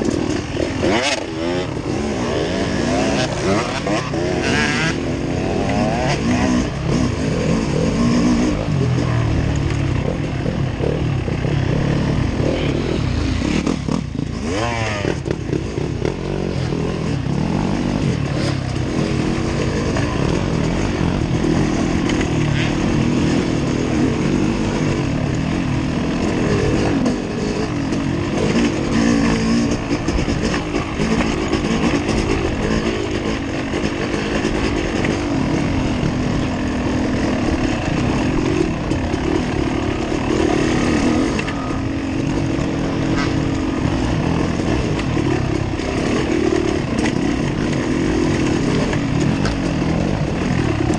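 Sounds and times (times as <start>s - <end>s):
motorbike engine revving: 0.0s - 50.9s.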